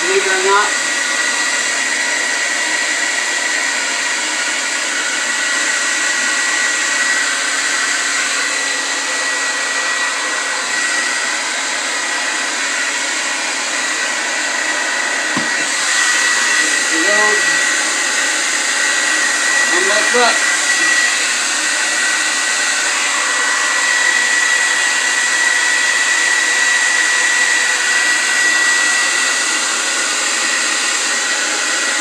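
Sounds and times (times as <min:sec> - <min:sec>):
blow dryer hissing: 0:00.0 - 0:32.0.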